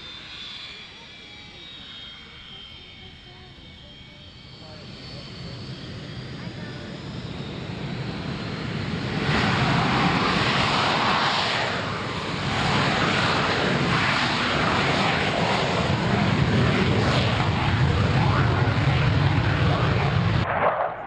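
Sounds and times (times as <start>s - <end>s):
jet engine at high power: 0.0s - 21.0s.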